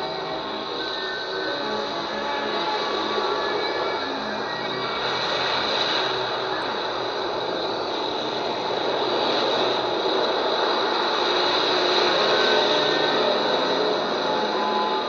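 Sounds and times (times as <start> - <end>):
cassette tape hiss: 0.0 - 15.0.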